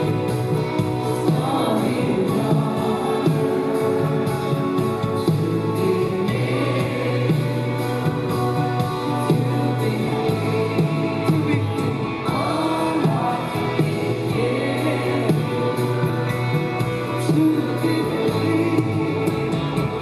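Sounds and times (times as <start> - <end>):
man singing lead: 0.0 - 20.0
women singing: 0.0 - 20.0.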